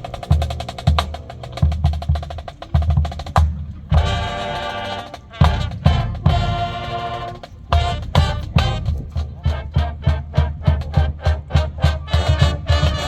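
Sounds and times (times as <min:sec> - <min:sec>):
marching band long held chords: 0:00.0 - 0:13.0
rapid snare drum strokes: 0:00.0 - 0:13.0.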